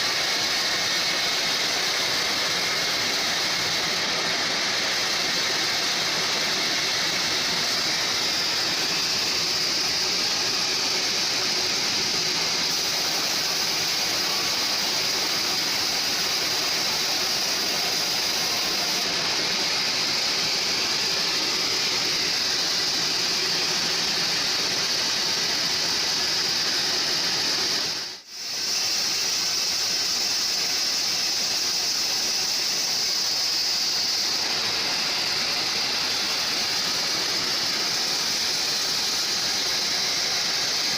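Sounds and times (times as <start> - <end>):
band sawmill running: 0.0 - 40.9.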